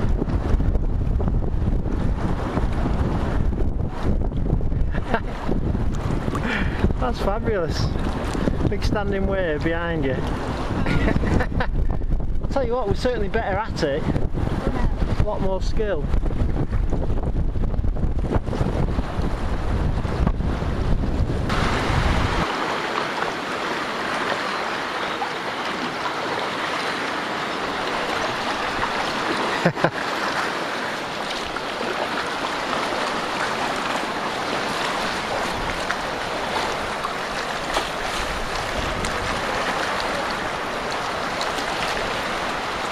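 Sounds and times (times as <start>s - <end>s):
water rushing and splashing: 0.0s - 42.9s.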